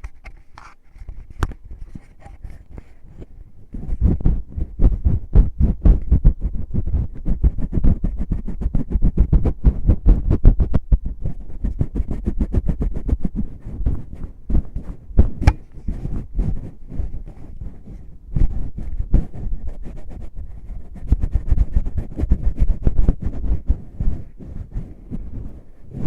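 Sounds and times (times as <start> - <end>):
fingers rubbing on microphone: 0.0 - 26.0.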